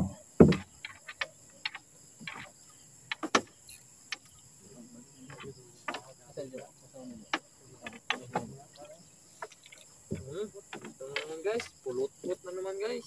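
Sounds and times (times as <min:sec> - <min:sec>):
fishing gear clicks and knocks: 0:00.0 - 0:04.4, 0:05.2 - 0:11.9
night insects chorus: 0:00.0 - 0:13.0.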